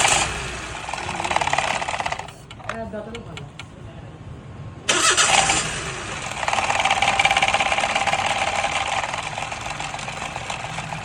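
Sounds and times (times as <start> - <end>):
car engine rumbling: 0.0 - 3.9, 4.8 - 11.0.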